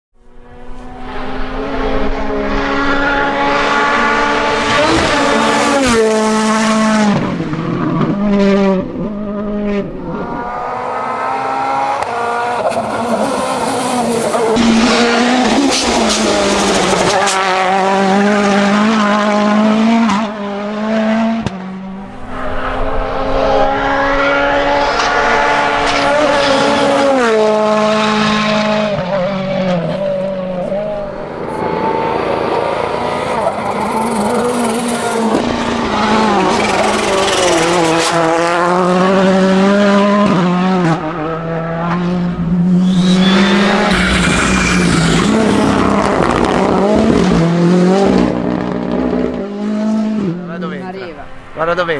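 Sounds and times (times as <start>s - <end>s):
rally car engines revving: 0.2s - 51.9s.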